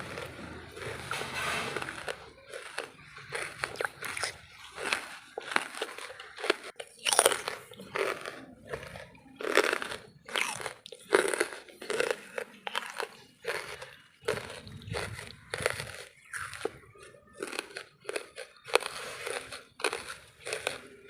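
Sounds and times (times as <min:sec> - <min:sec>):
chewing crunchy charcoal: 0:00.0 - 0:21.0.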